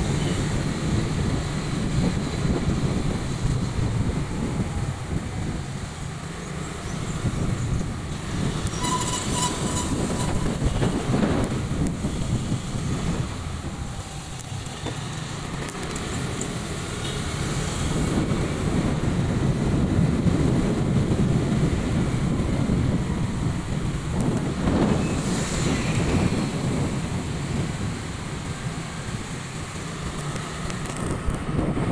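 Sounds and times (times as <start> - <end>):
scooter engine and road rumble: 0.0 - 31.9
wind on microphone: 0.0 - 31.9.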